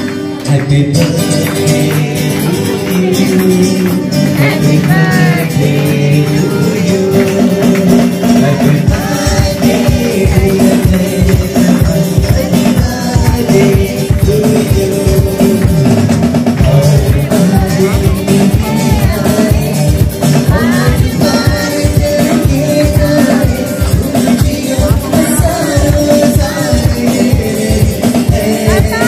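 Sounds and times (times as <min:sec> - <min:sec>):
acoustic guitars: 0:00.0 - 0:29.0
percussion beat: 0:00.0 - 0:29.0
person singing: 0:00.0 - 0:29.0.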